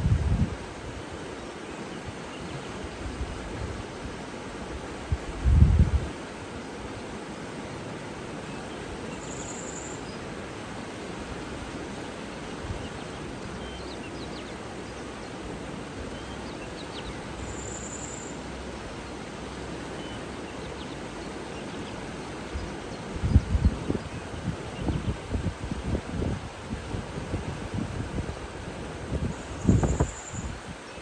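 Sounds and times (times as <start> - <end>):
flowing water: 0.0 - 31.0.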